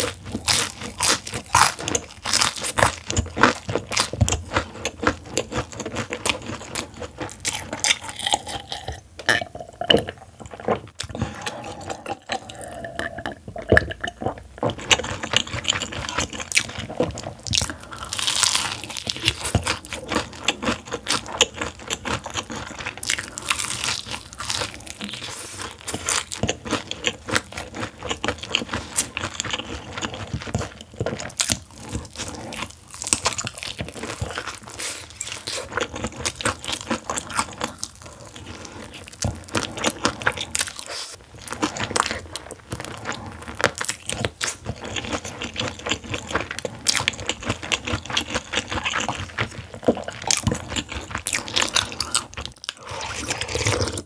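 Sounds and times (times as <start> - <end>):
crunching fried chicken: 0.0 - 8.9, 14.7 - 54.0.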